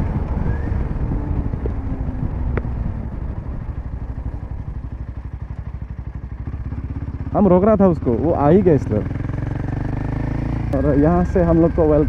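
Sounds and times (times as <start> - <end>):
motorcycle engine slowing: 0.0 - 12.0.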